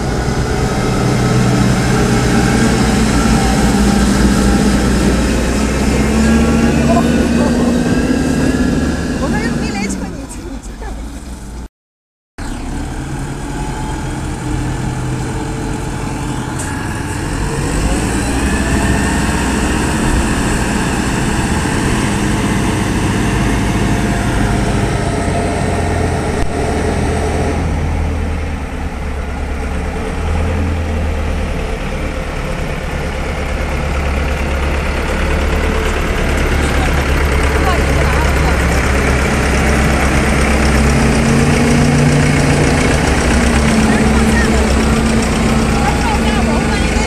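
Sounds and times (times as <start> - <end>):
diesel engine running: 0.0 - 11.7, 12.4 - 47.0.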